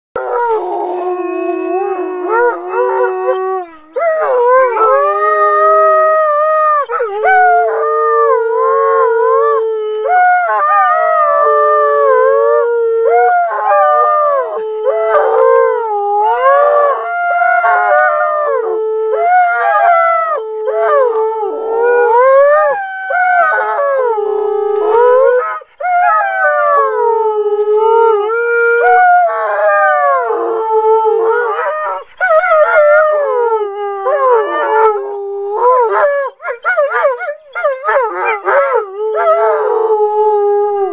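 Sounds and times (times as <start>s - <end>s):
dogs howling: 0.2s - 40.9s.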